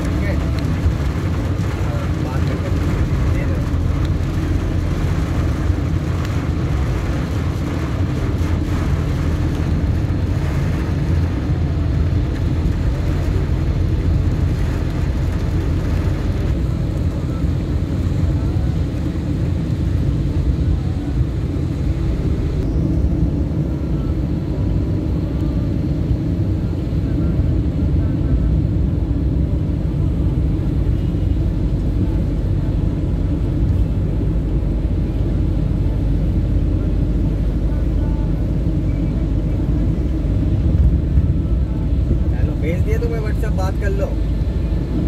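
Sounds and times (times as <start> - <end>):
car engine and tyre noise: 0.0 - 45.0.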